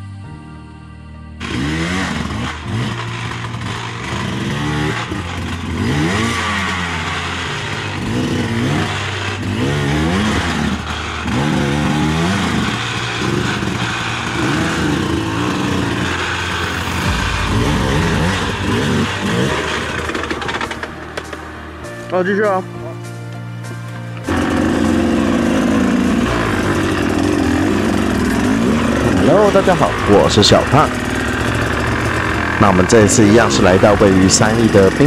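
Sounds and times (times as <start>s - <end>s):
dirt bike engine revving: 1.4s - 21.5s, 24.2s - 35.0s.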